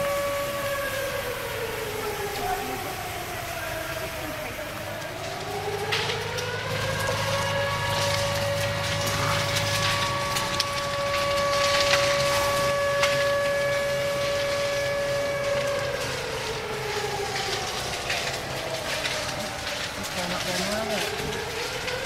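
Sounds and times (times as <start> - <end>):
fire engine siren: 0.0 - 22.0
sharp cracks: 1.9 - 22.0.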